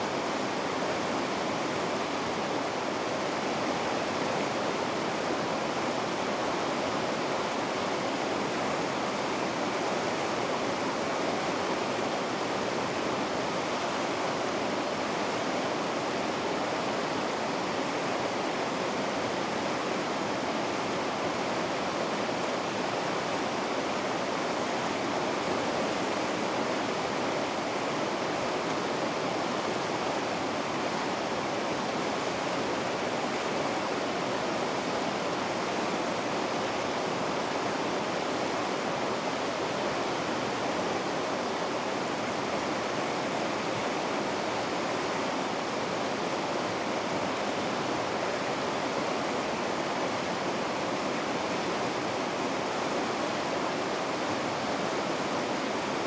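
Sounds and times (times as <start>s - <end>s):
river rapids rushing: 0.0s - 56.0s.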